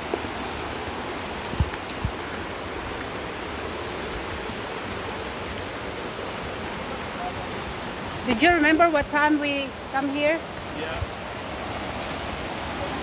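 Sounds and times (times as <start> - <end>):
waterfall gushing: 0.0 - 13.0.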